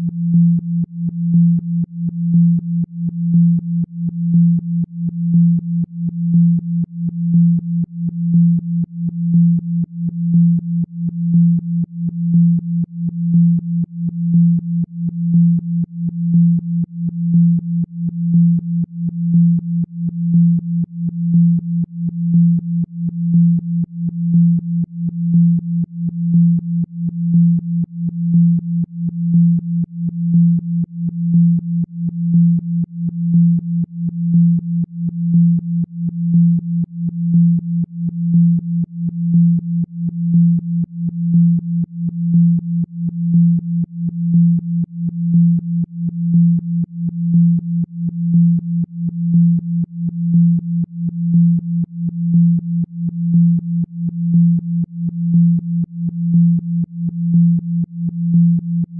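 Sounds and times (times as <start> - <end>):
pulsing low synthesized tone: 0.0 - 58.9.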